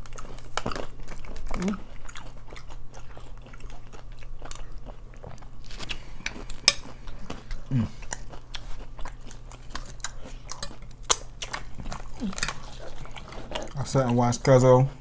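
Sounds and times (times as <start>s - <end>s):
chip crunching and chewing: 0.0s - 14.7s.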